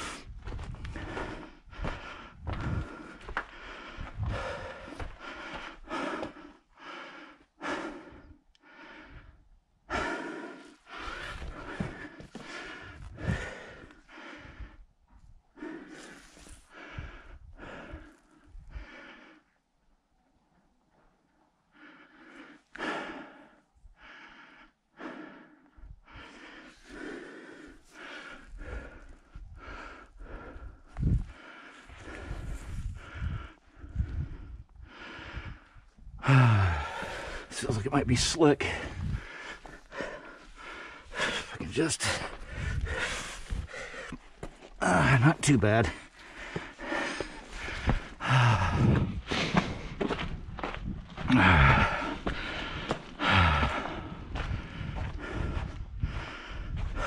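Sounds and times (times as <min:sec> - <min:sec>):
person breathing heavily: 0:00.0 - 0:19.7, 0:21.7 - 0:57.0.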